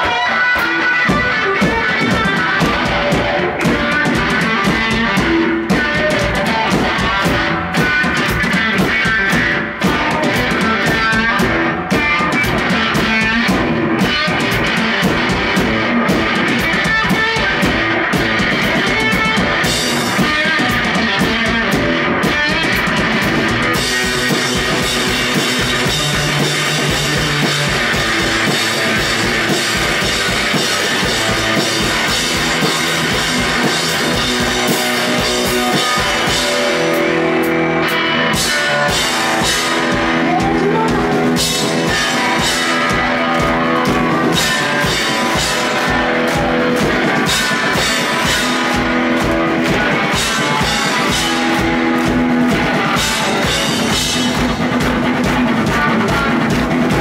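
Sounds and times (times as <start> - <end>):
drum kit playing: 0.0 - 57.0
electric guitar: 0.0 - 57.0.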